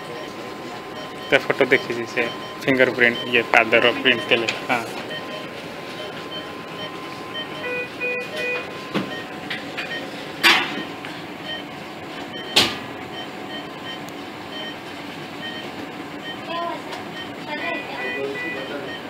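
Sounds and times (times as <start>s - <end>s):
patient monitor beeping: 0.0s - 19.0s.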